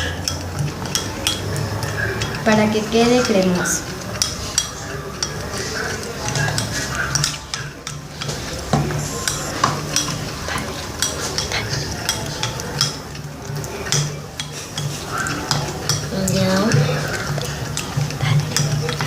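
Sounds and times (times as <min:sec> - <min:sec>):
spoon scraping bowl: 0:00.0 - 0:19.0
spoon stirring thick mixture: 0:00.0 - 0:19.0.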